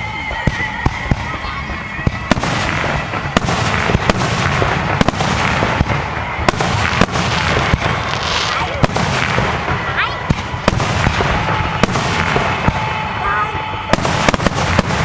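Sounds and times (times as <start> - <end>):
fireworks crackling: 0.0 - 15.0
firework shells bursting: 2.2 - 15.0.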